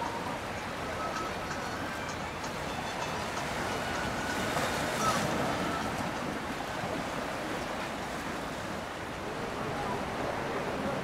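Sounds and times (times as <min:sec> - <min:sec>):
boat traffic: 0:00.0 - 0:11.0
river water rushing: 0:00.0 - 0:11.0
wind: 0:00.0 - 0:11.0.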